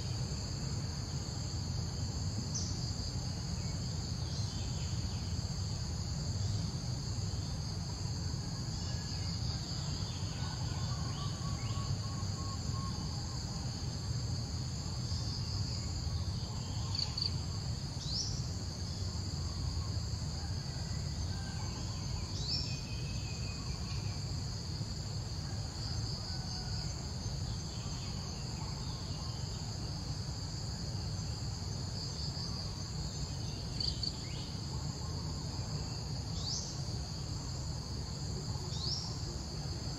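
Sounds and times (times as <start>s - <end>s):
insects trilling drone: 0.0s - 39.9s.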